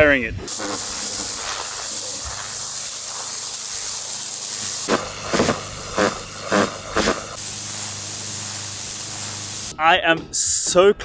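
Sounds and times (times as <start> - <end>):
pressure washer jet hissing: 0.4 - 9.8.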